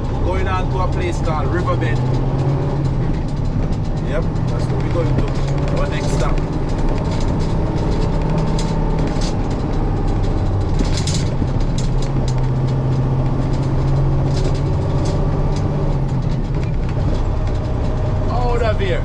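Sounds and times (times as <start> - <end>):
diesel engine hum from cab: 0.0 - 19.0
light rattles and clicks: 0.0 - 19.0.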